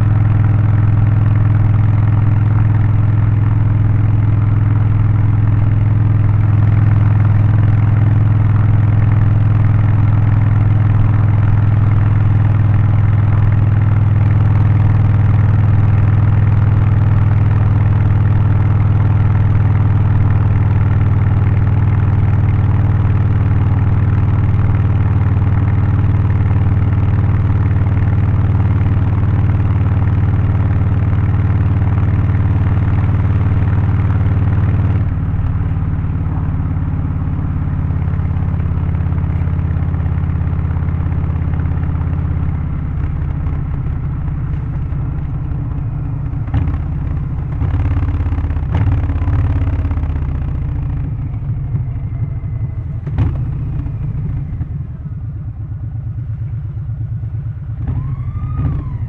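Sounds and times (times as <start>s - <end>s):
motorcycle engine running loud: 0.0s - 59.0s.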